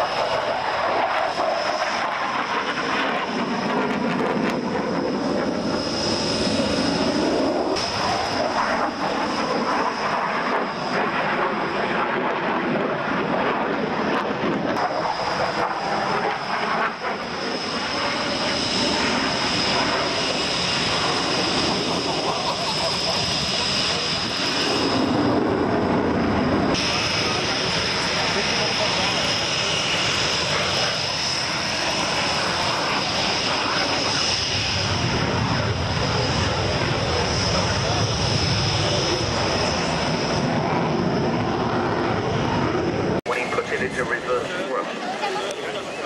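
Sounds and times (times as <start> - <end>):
jet engine roar with whine: 0.0 - 46.0.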